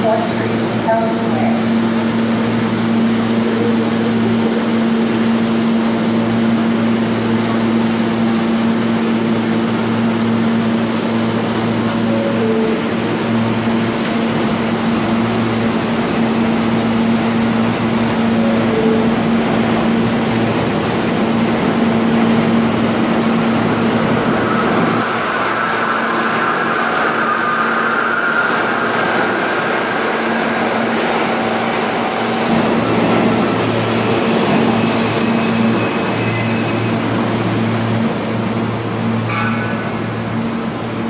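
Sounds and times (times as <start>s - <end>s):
subway train low hum: 0.0s - 41.0s.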